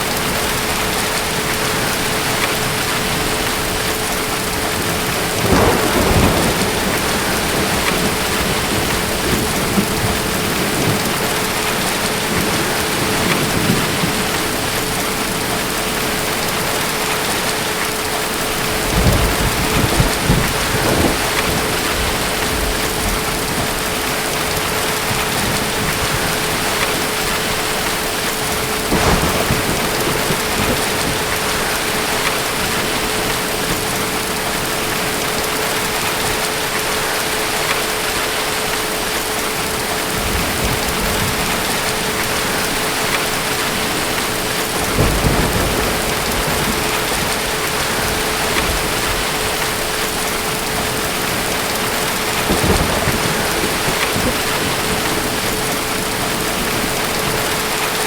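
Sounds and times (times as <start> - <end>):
thunder rolling: 0.0 - 17.7, 18.4 - 36.5, 39.6 - 58.0
heavy rain falling: 0.0 - 58.0.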